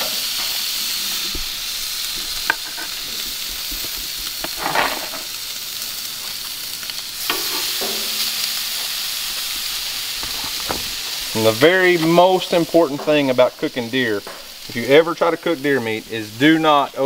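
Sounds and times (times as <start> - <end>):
meat scraping on grill: 0.0 - 17.0
meat sizzling on grill: 0.0 - 17.0.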